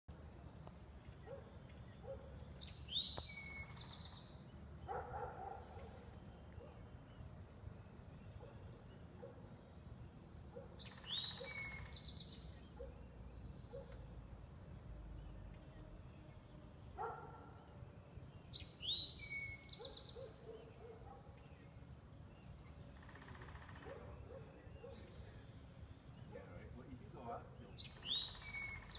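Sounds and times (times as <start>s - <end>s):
bird high song phrase: 0.3s - 23.0s, 23.7s - 28.9s.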